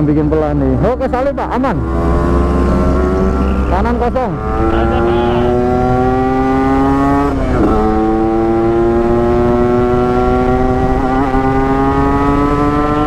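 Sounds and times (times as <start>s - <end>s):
motorcycle accelerating: 0.0s - 13.0s.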